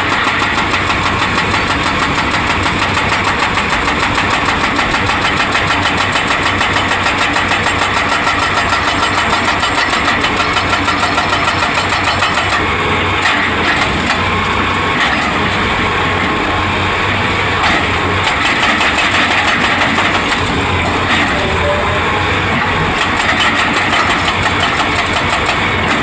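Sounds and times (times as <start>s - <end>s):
excavator engine running: 0.0s - 26.0s
hydraulic breaker hammering: 0.0s - 26.0s.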